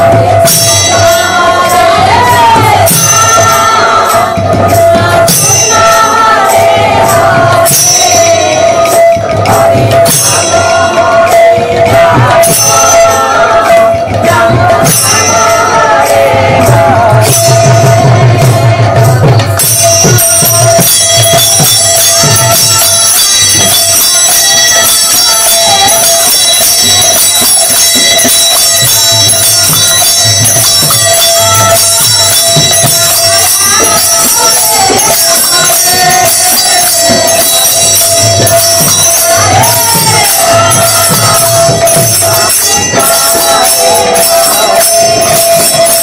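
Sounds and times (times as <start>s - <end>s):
barrel drum beating: 0.0s - 46.0s
hand cymbals clashing: 0.0s - 46.0s
women singing: 0.0s - 46.0s.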